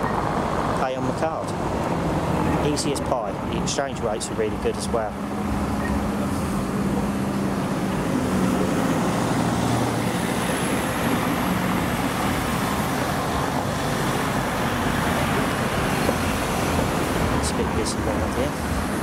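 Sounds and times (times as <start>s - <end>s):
passing traffic: 0.0s - 19.0s
vehicle engine humming: 0.0s - 19.0s.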